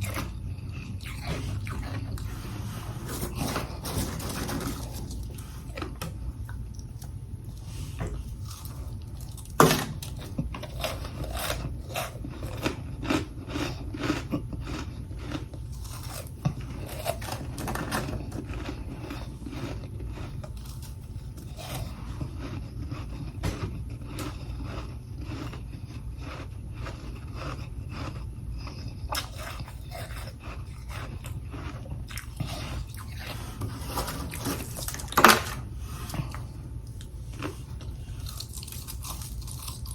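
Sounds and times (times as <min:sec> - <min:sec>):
person chewing frost crunches: 0:00.0 - 0:39.9
steady low hum: 0:00.0 - 0:39.9.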